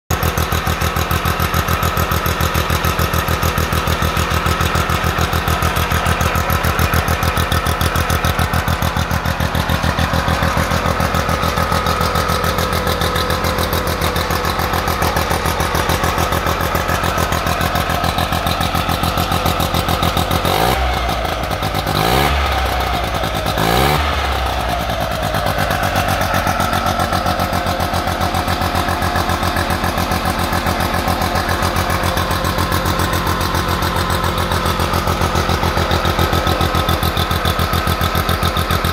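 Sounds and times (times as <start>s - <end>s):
engine idling and revving: 0.1s - 38.9s.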